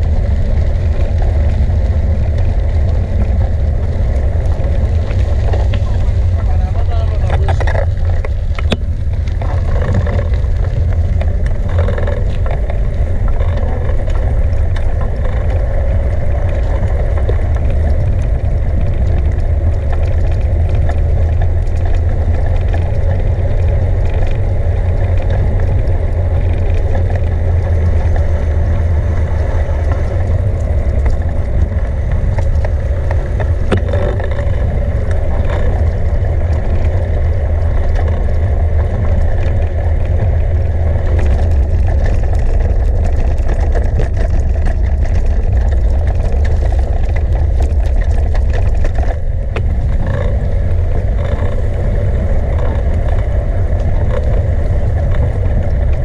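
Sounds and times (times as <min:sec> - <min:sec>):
bicycle tyre rumble: 0:00.0 - 0:56.0
wind on microphone: 0:00.0 - 0:56.0.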